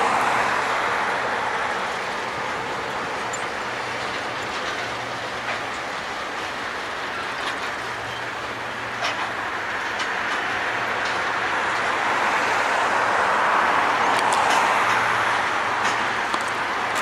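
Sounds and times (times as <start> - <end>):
freight train rolling past: 0.0 - 17.0
low engine hum: 0.0 - 17.0.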